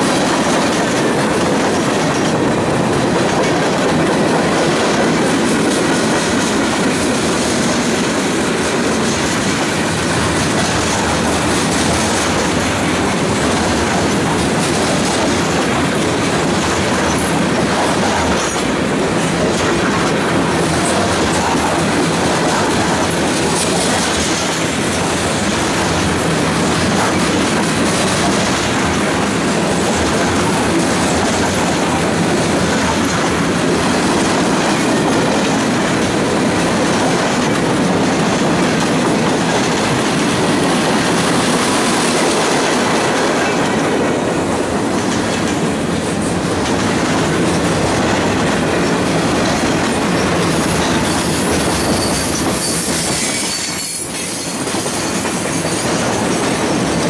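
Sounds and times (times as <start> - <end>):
freight train wheels rolling on rails: 0.0 - 57.0.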